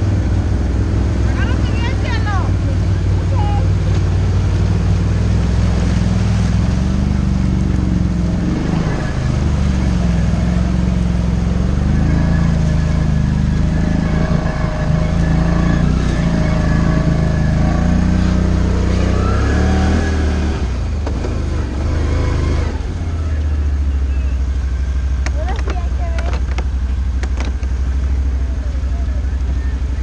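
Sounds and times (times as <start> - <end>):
quad bike engine running: 0.0 - 30.0
water splashing: 0.0 - 30.0.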